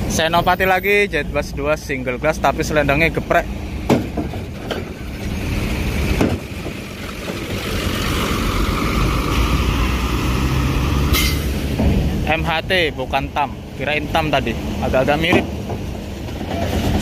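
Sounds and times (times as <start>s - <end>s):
diesel engine driving past: 0.0s - 17.0s.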